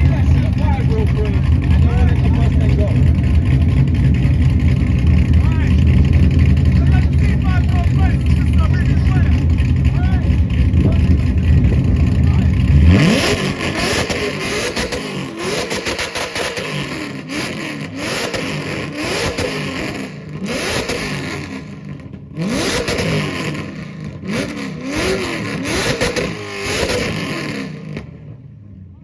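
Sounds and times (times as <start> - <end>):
car engine revving: 0.0 - 28.8.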